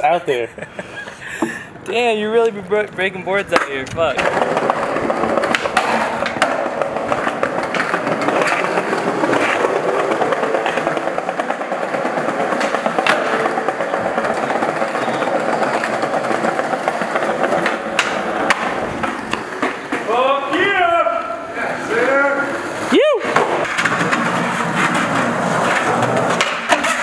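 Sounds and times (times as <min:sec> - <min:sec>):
skateboard wheels rolling on concrete: 0:00.0 - 0:27.0
skateboard clacks: 0:01.4 - 0:27.0.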